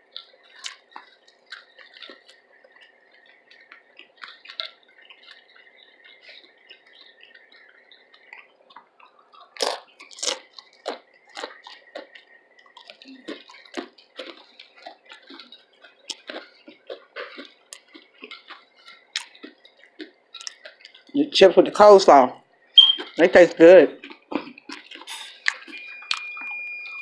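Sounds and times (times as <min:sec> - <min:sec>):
person chewing crunchy food: 0:00.0 - 0:21.8, 0:22.6 - 0:27.0.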